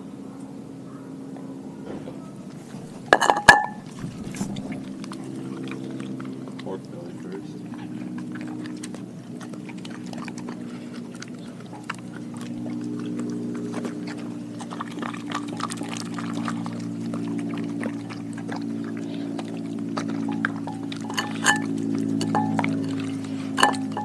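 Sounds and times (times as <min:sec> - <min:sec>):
steady low hum: 0:00.0 - 0:24.0
dog wet chewing and smacking: 0:02.2 - 0:24.0.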